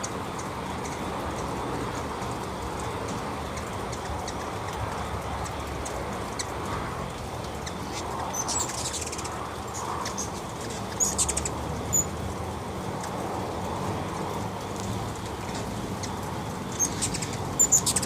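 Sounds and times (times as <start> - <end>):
hummingbirds chipping: 0.0 - 18.0.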